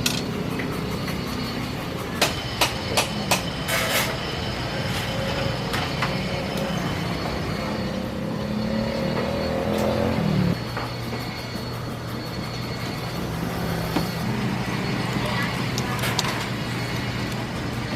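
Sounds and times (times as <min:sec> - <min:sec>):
motor-like hum: 0:00.0 - 0:17.9.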